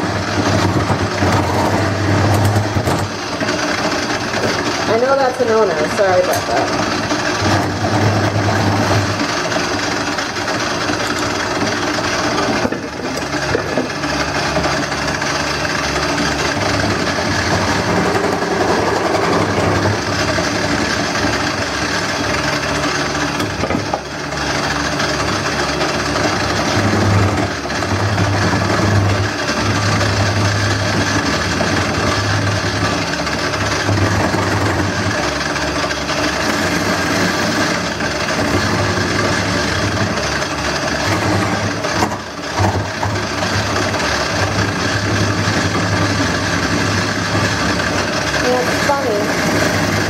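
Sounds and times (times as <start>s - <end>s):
gouge scraping spinning wood: 0.0s - 50.0s
wood lathe motor hum: 0.0s - 50.0s.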